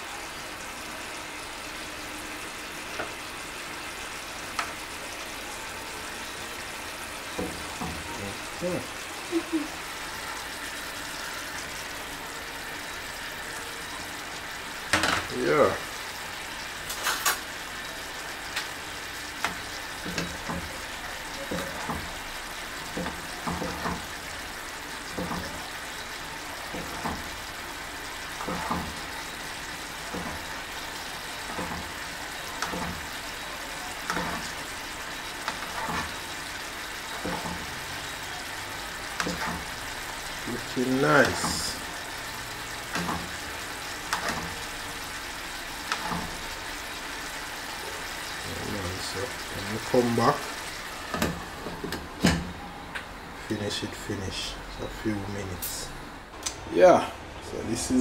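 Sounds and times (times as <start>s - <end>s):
food sizzling in hot oil: 0.0s - 52.6s.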